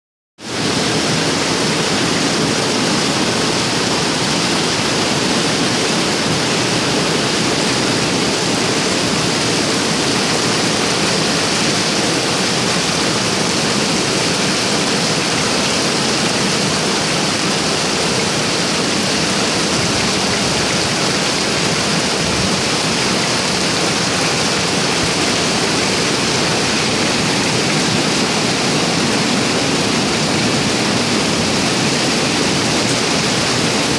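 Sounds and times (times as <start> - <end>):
heavy rain falling: 0.4 - 33.9.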